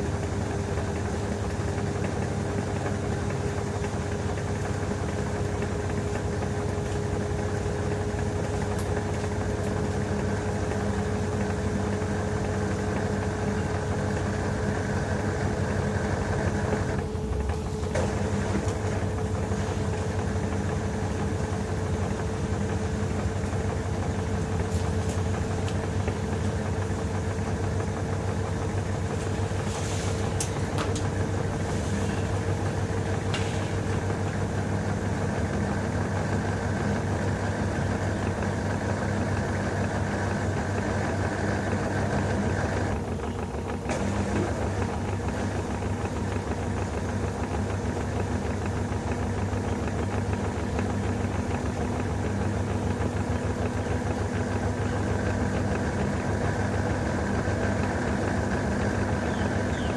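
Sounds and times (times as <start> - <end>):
washing machine motor hum: 0.0 - 59.9.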